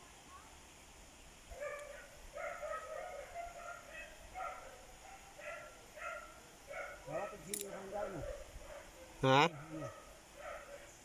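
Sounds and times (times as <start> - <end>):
dog barking: 1.5 - 11.0.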